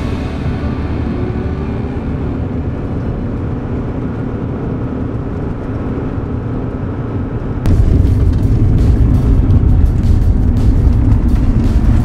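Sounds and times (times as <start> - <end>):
van driving on gravel: 0.0 - 12.0.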